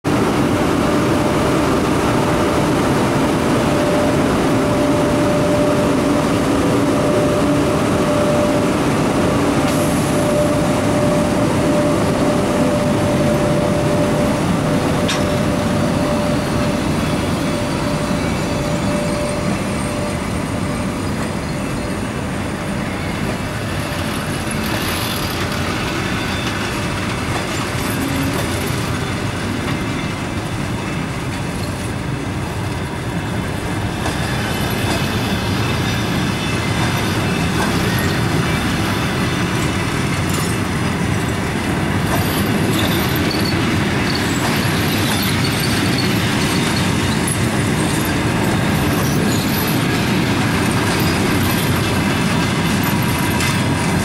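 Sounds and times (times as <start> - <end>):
electric locomotive running: 0.0 - 54.0
held locomotive tone: 0.0 - 54.0
train coaches rolling on rails: 0.0 - 54.0.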